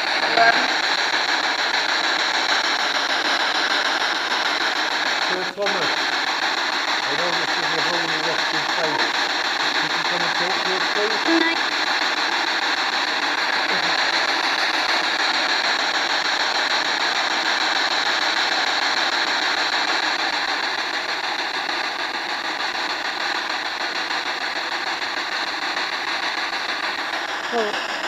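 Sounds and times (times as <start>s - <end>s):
radio static: 0.0s - 28.0s.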